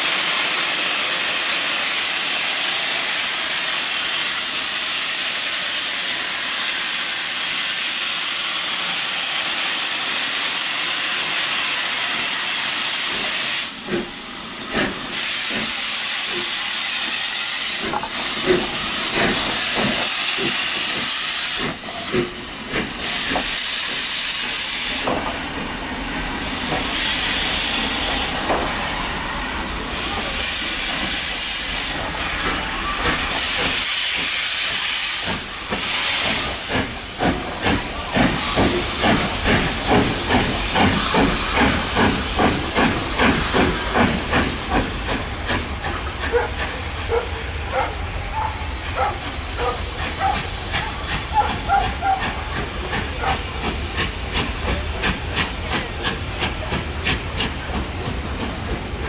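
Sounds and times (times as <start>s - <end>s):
steam hissing: 0.0s - 59.0s
steam locomotive exhaust beats: 0.0s - 59.0s.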